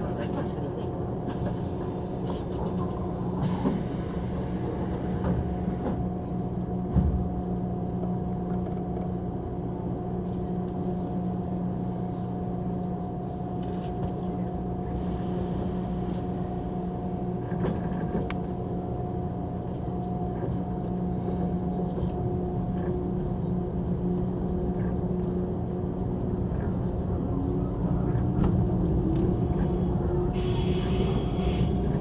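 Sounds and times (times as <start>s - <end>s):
train rumble and hum: 0.0s - 32.0s.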